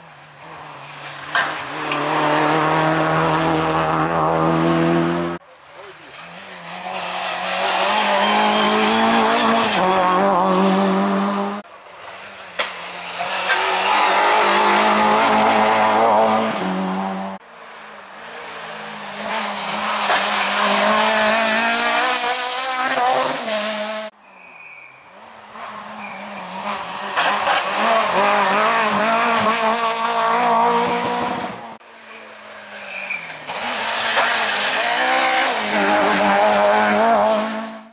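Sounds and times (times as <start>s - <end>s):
rally cars passing at full throttle: 0.0s - 37.9s.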